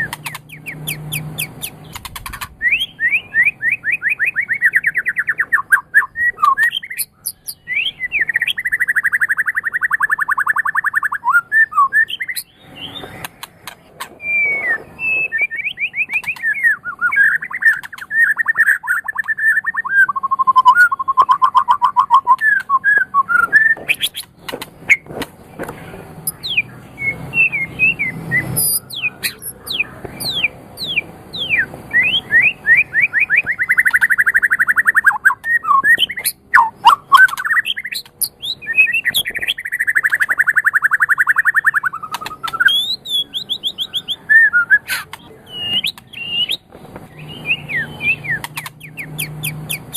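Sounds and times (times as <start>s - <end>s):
bird singing trills and whistles: 0.0s - 25.1s, 26.2s - 49.9s.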